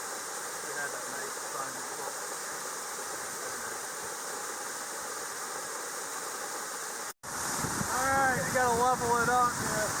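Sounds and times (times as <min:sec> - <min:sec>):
creek water rushing: 0:00.0 - 0:10.0.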